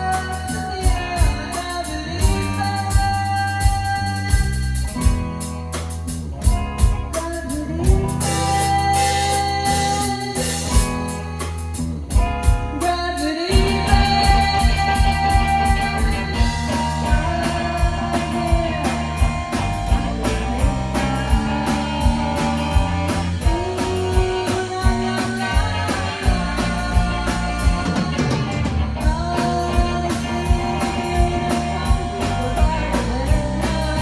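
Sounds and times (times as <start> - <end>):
drum kit beat: 0.0 - 34.0
electric guitar: 0.0 - 34.0
live rock band playing: 0.0 - 34.0.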